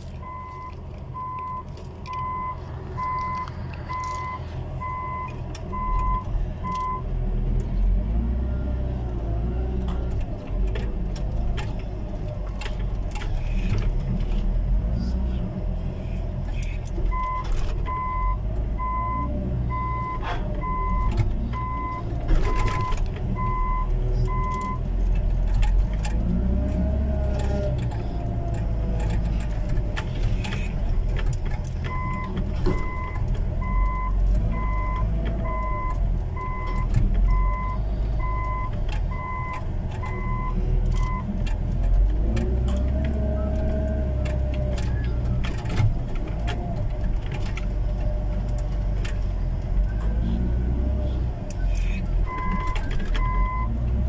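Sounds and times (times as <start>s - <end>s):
heavy machine engine rumble: 0.0s - 54.0s.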